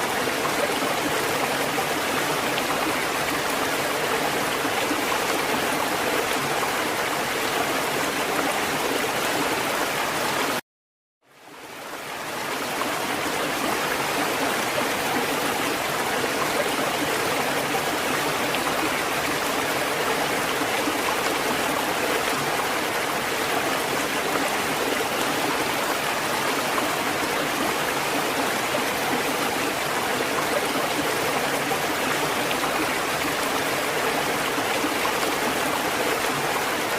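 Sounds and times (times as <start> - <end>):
rushing water: 0.0 - 10.6, 11.3 - 36.9.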